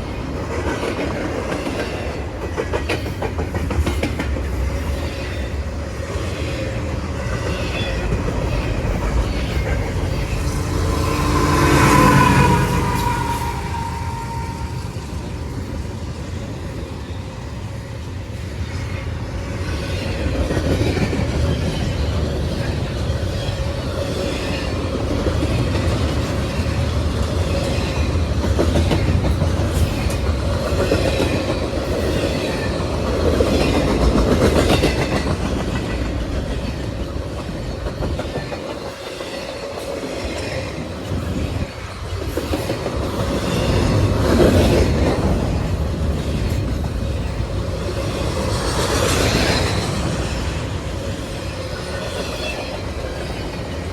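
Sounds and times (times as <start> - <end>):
clickety-clack over rail joints: 0.0 - 13.2, 15.4 - 53.9
freight train wheels on rail: 0.0 - 53.9.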